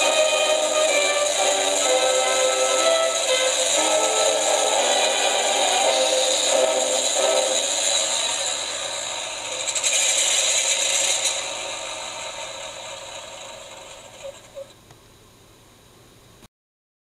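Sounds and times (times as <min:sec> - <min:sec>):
rattling simulated engine noise: 0:00.0 - 0:14.8.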